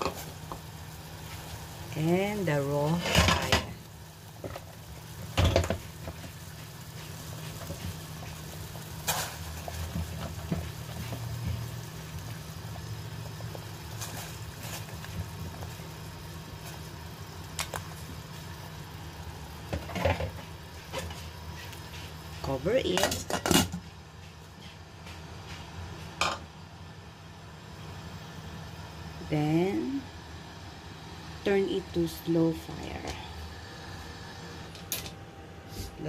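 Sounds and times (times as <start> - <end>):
soup boiling and bubbling: 0.0 - 31.5
low steady hum: 0.0 - 36.0.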